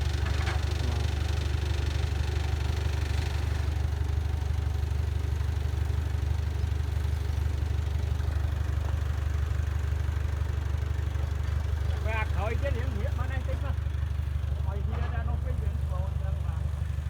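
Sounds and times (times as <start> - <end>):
diesel engine idling low: 0.0 - 17.0.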